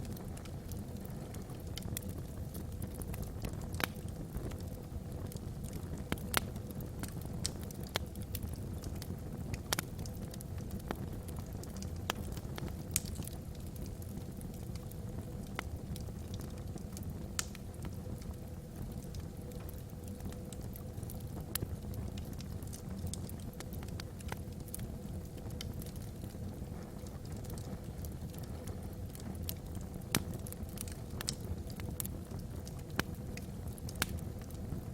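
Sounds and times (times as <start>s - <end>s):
fire rumbling in fireplace: 0.0s - 34.9s
logs crackling and popping: 0.0s - 34.9s.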